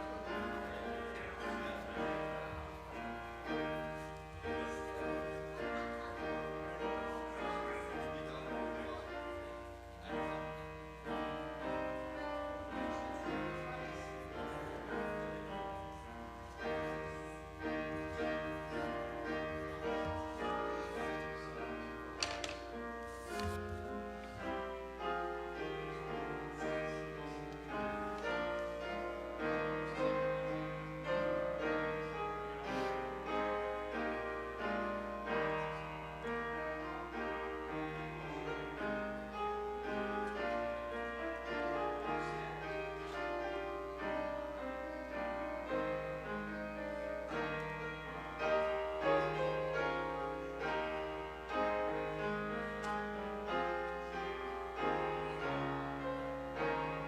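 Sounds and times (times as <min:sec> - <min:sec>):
piano playing chords and melody: 0:00.0 - 0:57.0.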